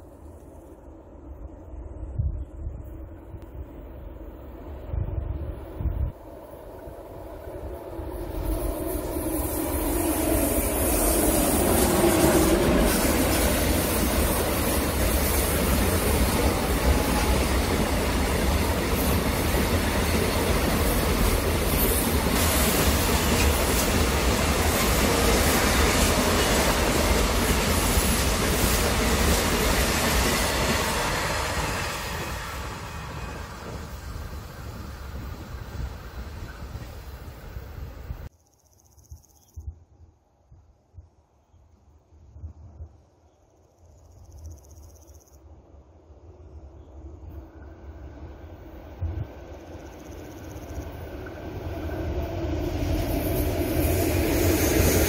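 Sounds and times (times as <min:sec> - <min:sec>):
freight train wheels on rails: 0:00.0 - 0:38.3, 0:47.0 - 0:55.0.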